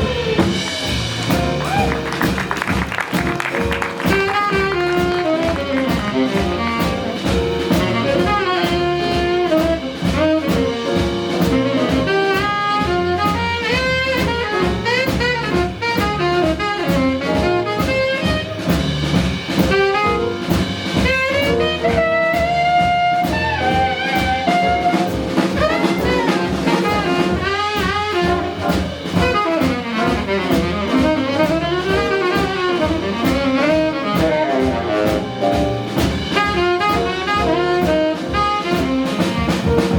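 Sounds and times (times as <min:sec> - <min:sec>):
saxophone lead: 0:00.0 - 0:18.8, 0:19.6 - 0:39.9
drum kit cymbals: 0:00.0 - 0:39.9
piano: 0:00.0 - 0:39.9
walking bass: 0:00.0 - 0:39.9.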